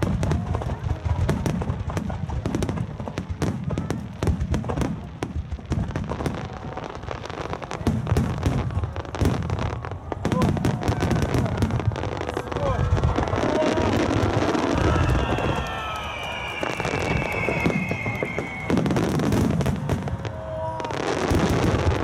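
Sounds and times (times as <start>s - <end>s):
fireworks bangs and cracks: 0.0s - 22.0s.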